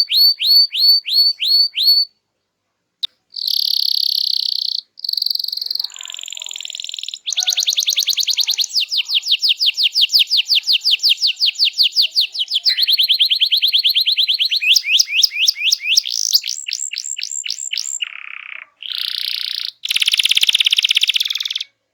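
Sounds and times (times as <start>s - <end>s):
canary singing trills: 0.0s - 2.2s, 3.0s - 21.8s.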